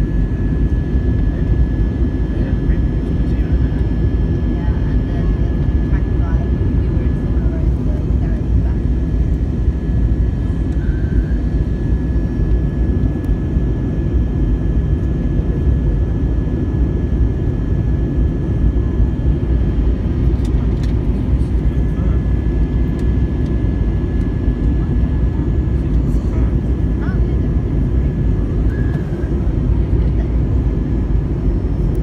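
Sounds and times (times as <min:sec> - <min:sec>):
thin steady whine: 0:00.0 - 0:16.8, 0:17.4 - 0:32.0
airplane cabin rumble: 0:00.0 - 0:32.0.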